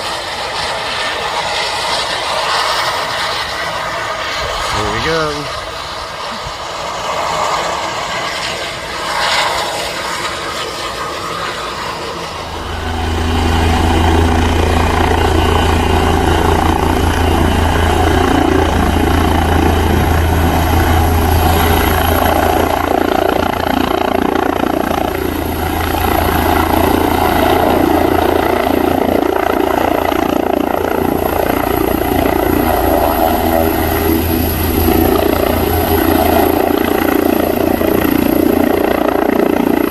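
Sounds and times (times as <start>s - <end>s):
helicopter rotor and turbine: 0.0s - 39.9s.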